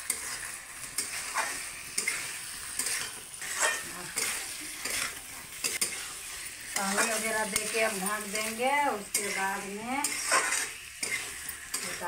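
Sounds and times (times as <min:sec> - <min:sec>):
chicken sizzling in pan: 0:00.0 - 0:12.0
spoon scraping metal pan: 0:00.0 - 0:12.0.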